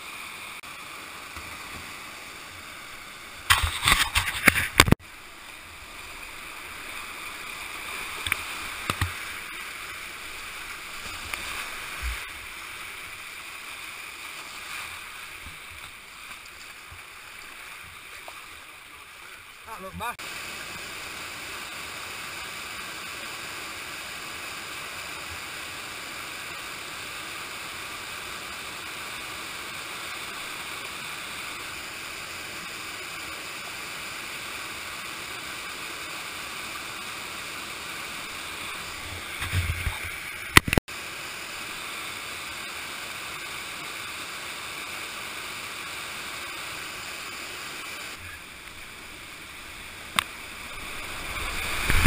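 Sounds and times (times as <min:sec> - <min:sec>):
whitewater rushing over weir: 0:00.0 - 0:52.0.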